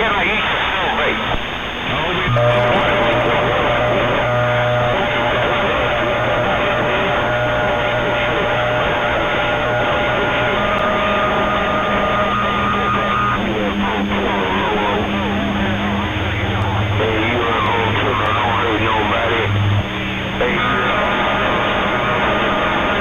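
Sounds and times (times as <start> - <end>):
radio static hiss: 0.0 - 23.0.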